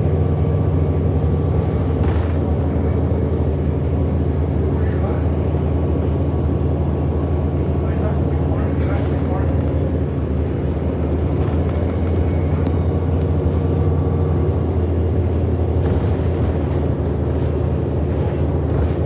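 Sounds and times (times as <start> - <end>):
bus drivetrain humming: 0.0 - 19.0.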